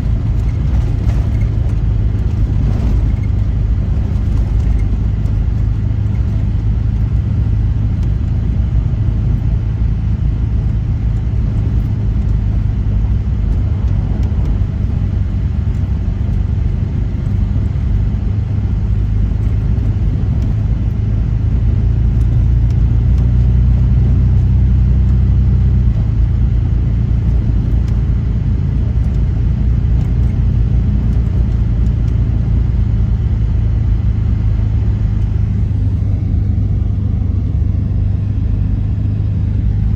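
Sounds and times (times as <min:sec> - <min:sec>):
vehicle driving slowly: 0:00.0 - 0:39.9.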